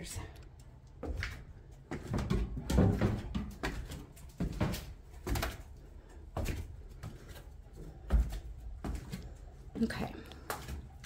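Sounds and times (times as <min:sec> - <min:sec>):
footsteps on wooden stairs: 0:00.6 - 0:11.0.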